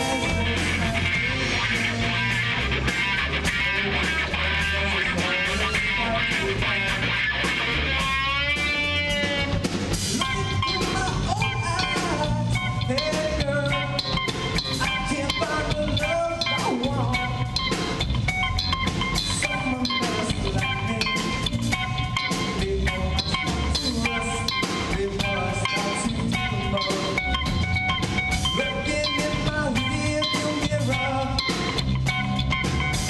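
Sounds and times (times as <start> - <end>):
drum kit: 0.0 - 33.0
electric guitar: 0.0 - 33.0.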